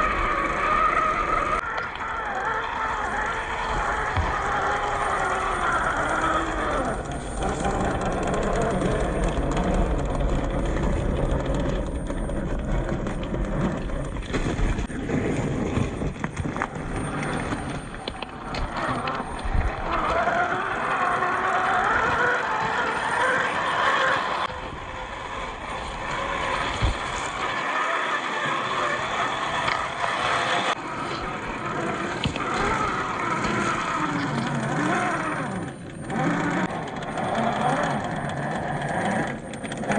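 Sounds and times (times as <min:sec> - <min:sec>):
toy car motor whining: 0:00.0 - 0:14.2, 0:16.4 - 0:39.9.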